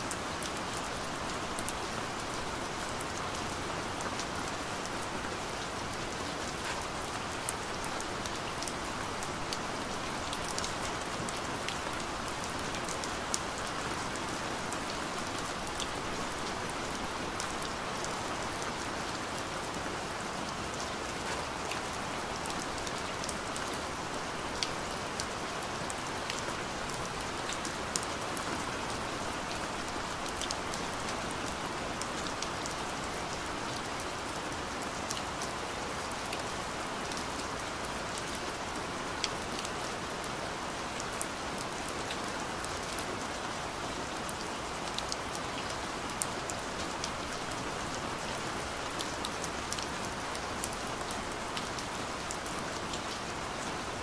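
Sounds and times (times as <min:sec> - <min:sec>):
rain falling on tarmac: 0:00.0 - 0:54.0.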